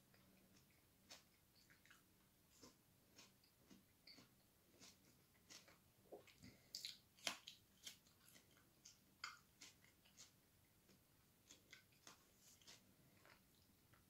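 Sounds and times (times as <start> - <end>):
person chewing and crunching food: 0.0 - 14.0.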